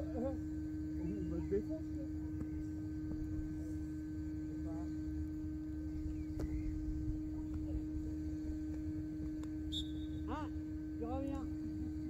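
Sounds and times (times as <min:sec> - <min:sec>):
low uneven rumble: 0:00.0 - 0:12.0
steady single-pitched hum: 0:00.0 - 0:12.0.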